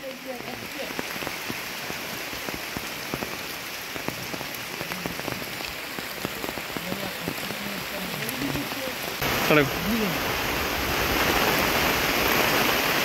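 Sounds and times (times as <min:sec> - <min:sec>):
rain falling: 0:00.0 - 0:13.0
raindrops striking close by: 0:00.0 - 0:13.0.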